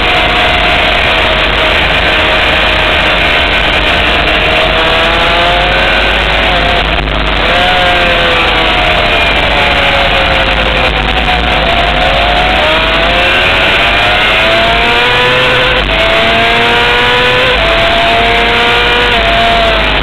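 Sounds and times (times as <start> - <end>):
motorcycle engine revving at speed: 0.0 - 20.0.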